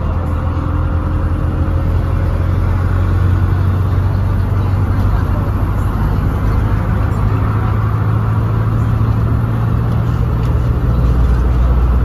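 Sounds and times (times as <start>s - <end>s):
bus engine droning: 0.0s - 12.0s
road and tyre noise: 0.0s - 12.0s.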